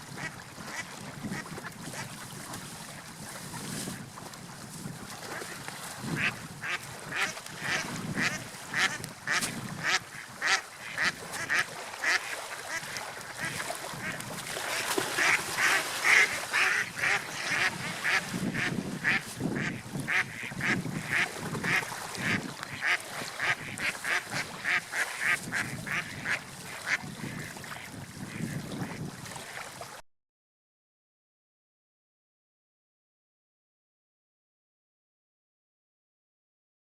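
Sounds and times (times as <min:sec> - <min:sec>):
faint low water or wind: 0:00.0 - 0:30.0.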